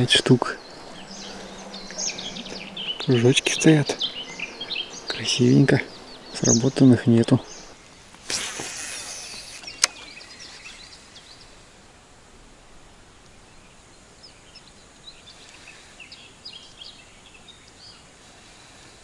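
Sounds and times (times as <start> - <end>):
small birds chirping: 0.0 - 8.1, 8.9 - 11.7, 13.2 - 19.0
low hiss: 0.0 - 19.0.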